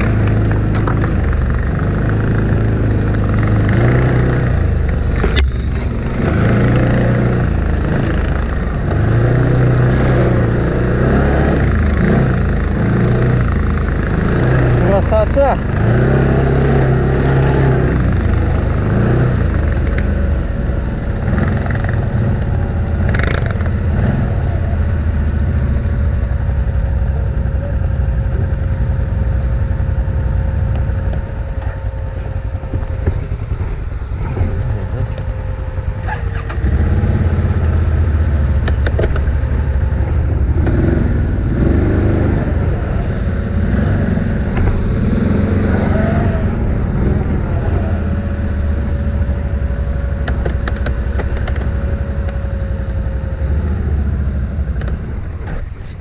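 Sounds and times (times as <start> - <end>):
atv engine running: 0.0 - 56.0
thin whine: 0.0 - 56.0.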